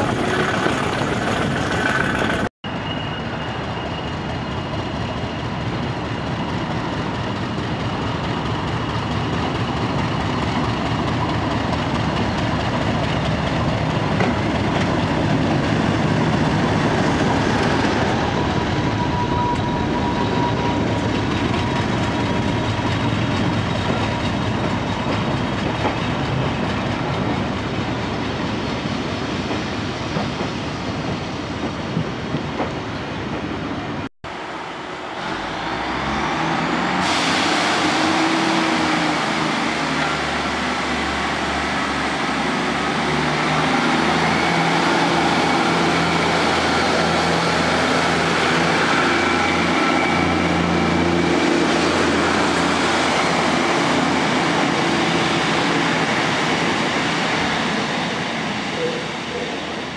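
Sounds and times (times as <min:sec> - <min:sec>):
diesel locomotive and train passing: 0:00.0 - 0:59.9.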